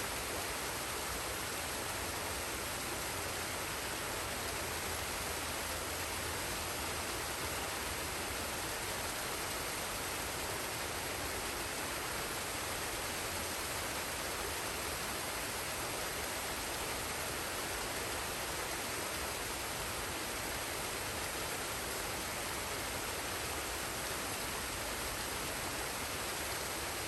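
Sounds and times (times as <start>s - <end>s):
waterfall and stream rushing: 0.0s - 27.0s.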